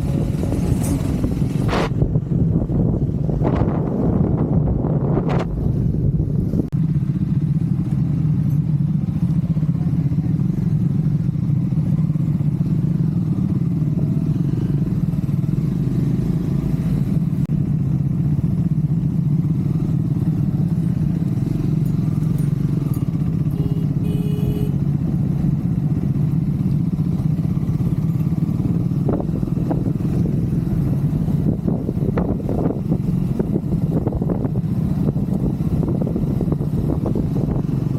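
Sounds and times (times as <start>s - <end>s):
motorcycle engine cruising: 0.0s - 37.9s.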